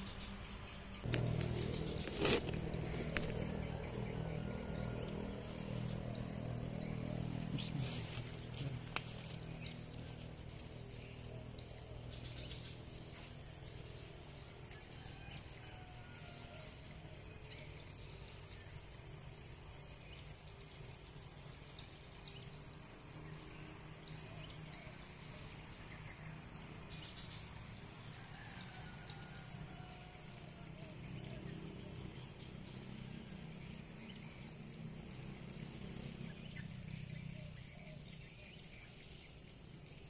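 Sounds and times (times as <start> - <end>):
insect chorus: 0.0 - 40.0.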